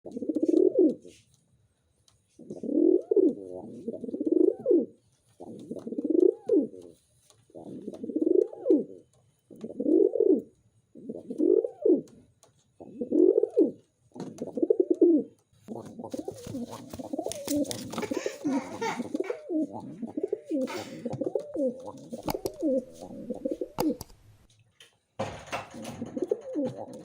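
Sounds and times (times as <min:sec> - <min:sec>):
pigeon cooing: 0:00.1 - 0:01.2, 0:02.4 - 0:06.9, 0:07.5 - 0:12.2, 0:12.8 - 0:24.0, 0:25.6 - 0:27.0.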